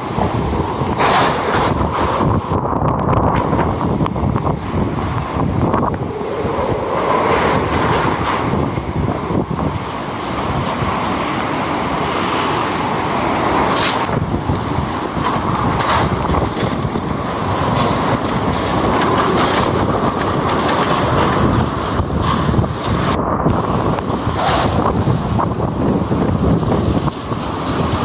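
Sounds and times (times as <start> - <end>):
strong wind rushing: 0.0 - 28.0.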